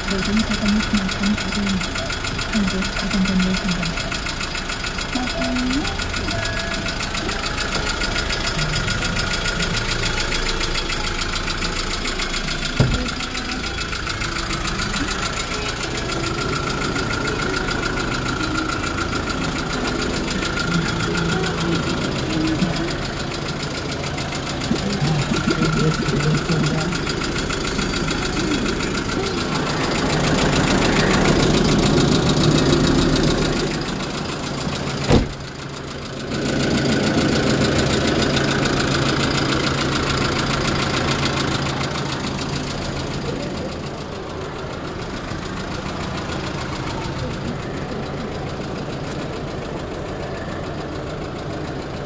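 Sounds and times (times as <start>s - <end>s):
truck engine idling: 0.0s - 52.0s.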